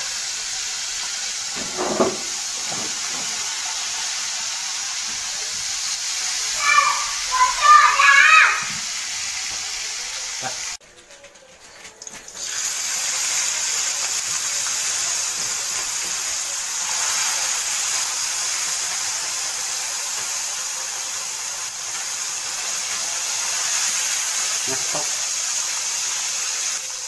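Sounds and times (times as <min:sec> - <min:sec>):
fish deep-frying in oil: 0:00.0 - 0:10.8, 0:12.0 - 0:27.0.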